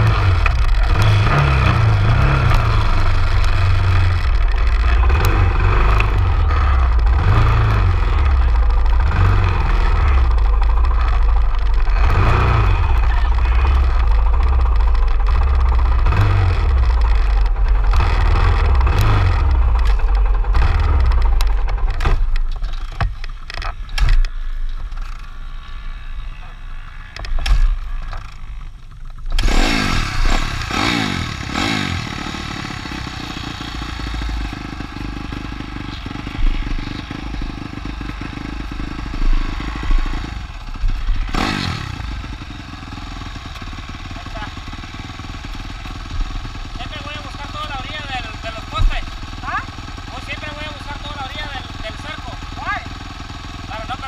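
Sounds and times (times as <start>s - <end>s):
dirt bike engine starting: 0.0s - 54.0s.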